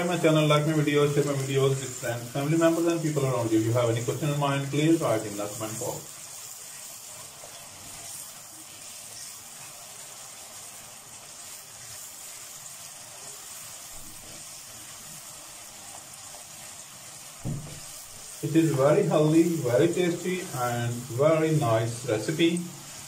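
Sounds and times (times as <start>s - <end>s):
onion sizzling in hot oil: 0.0s - 23.0s.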